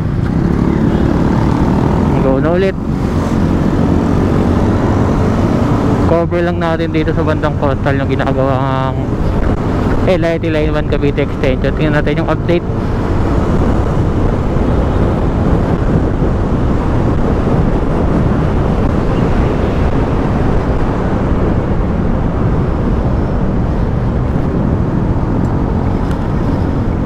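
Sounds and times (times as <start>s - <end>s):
road and engine noise: 0.0s - 27.0s
wind buffeting microphone: 0.0s - 27.0s.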